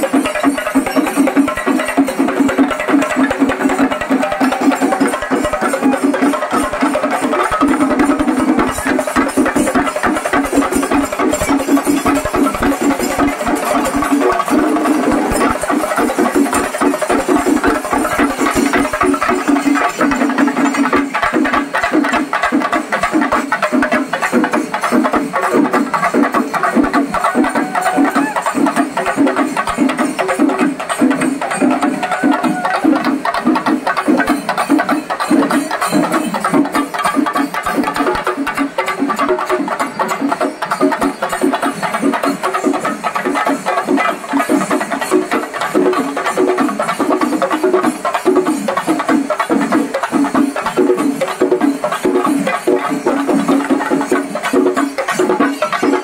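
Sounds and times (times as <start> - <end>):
fast drumming by percussion group: 0.0 - 56.0.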